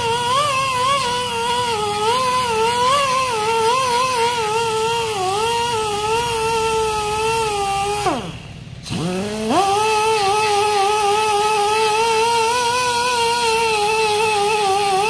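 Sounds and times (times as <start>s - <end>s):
rotary buffer whining on rubber: 0.0s - 15.0s.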